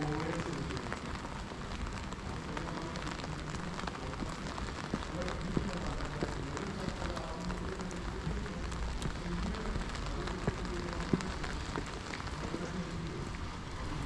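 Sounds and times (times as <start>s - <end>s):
rain on stone paving: 0.0s - 14.0s.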